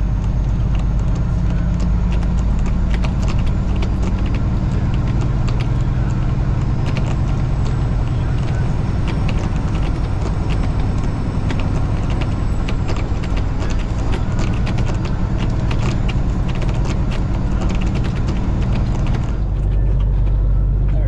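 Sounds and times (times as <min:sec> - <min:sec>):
diesel truck engine humming: 0:00.0 - 0:21.0
truck cab rattling and creaking: 0:00.0 - 0:21.0.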